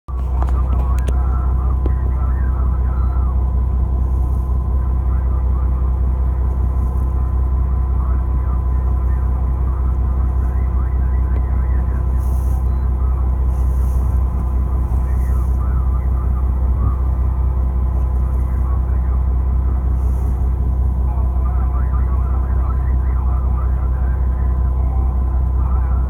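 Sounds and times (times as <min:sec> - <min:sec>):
boat engine droning: 0:00.1 - 0:26.0
thin steady whine: 0:00.1 - 0:26.0.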